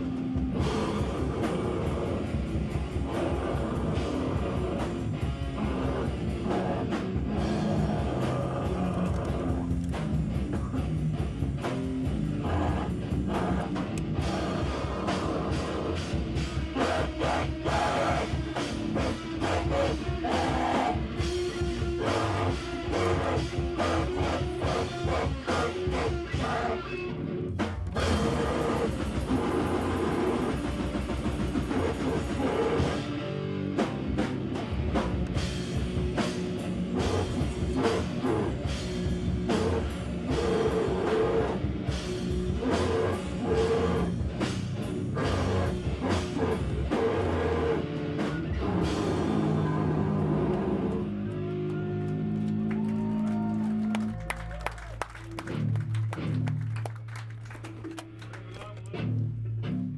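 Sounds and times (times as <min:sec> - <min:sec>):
live rock band playing: 0:00.0 - 0:51.2
pounding drum kit: 0:00.0 - 0:51.2
distorted guitar: 0:00.0 - 0:53.2, 0:57.8 - 0:59.9.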